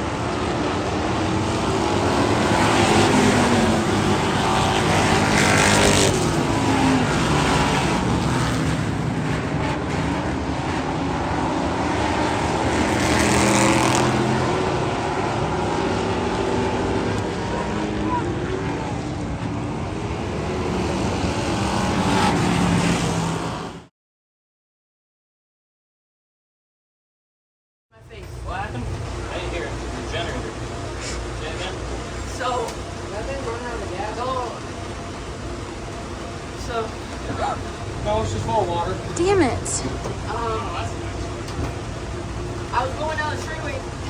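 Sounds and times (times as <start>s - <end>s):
race car engines passing: 0.0s - 23.9s, 28.0s - 44.0s.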